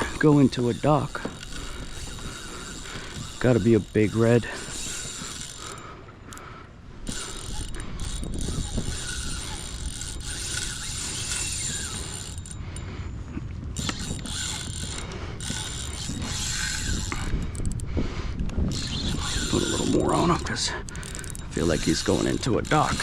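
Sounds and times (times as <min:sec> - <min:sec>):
fishing reel drag ratcheting: 0:00.0 - 0:12.9, 0:13.8 - 0:23.0.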